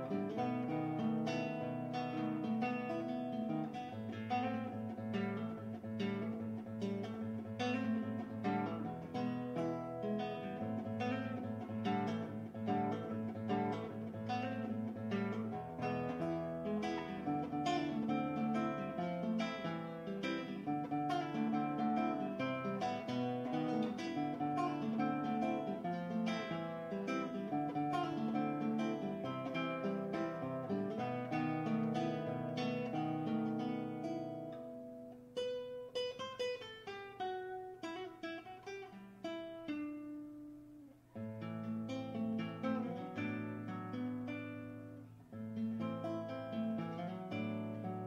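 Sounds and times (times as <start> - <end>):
acoustic guitar music: 0.0 - 48.0.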